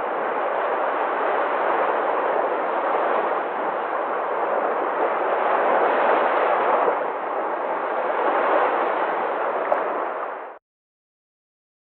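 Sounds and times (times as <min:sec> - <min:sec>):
waves washing onto sand: 0:00.0 - 0:10.6.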